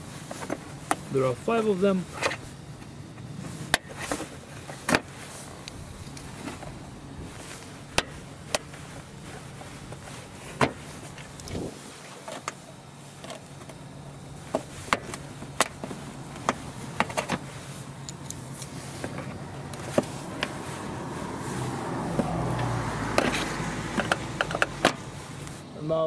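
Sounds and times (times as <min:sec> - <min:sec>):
rustling scraping noise: 0:00.0 - 0:25.7.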